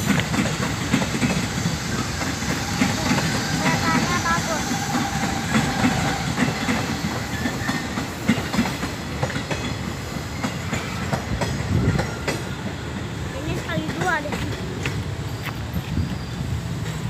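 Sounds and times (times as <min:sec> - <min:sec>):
electric train passing: 0:00.0 - 0:17.0
wheels clacking over rail joints: 0:00.0 - 0:17.0.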